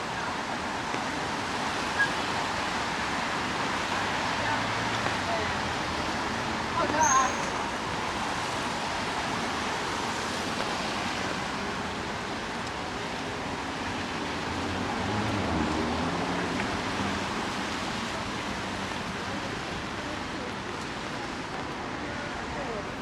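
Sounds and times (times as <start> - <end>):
street traffic: 0.0 - 23.0.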